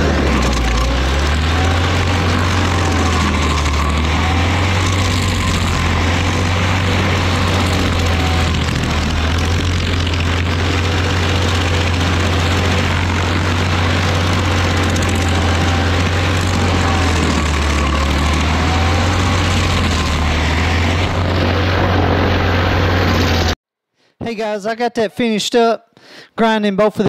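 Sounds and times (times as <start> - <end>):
stump grinder engine drone: 0.0 - 23.6.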